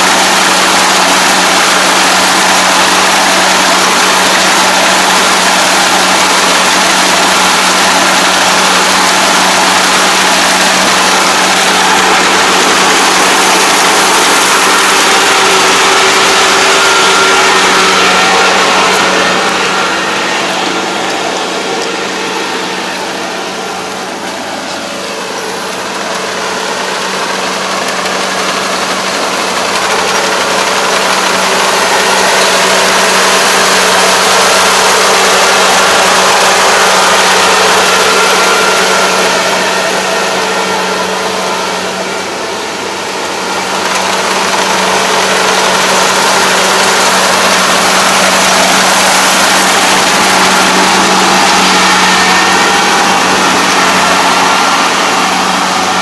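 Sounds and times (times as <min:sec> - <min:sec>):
clatter of threshing works: 0:00.0 - 0:56.0
combine harvester engine drone: 0:00.0 - 0:56.0.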